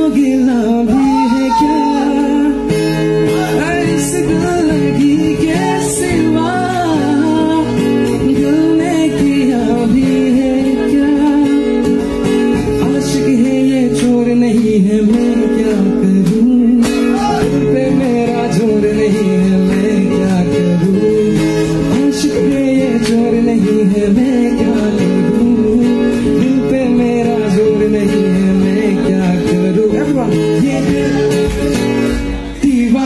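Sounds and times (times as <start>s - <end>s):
man singing: 0.0s - 11.9s, 12.5s - 33.0s
acoustic guitar: 0.0s - 33.0s.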